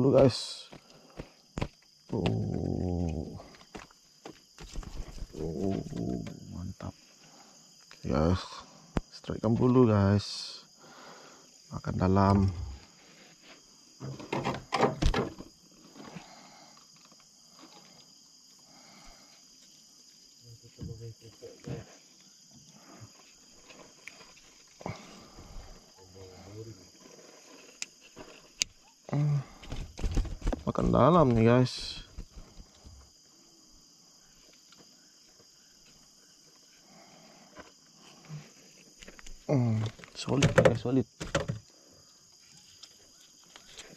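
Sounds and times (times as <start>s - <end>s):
night insects chirring: 0.0s - 43.9s.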